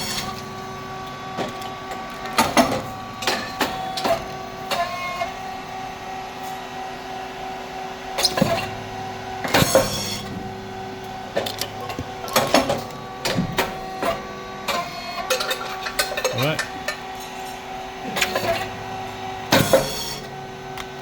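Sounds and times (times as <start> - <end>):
motor and hydraulic hum: 0.0 - 21.0.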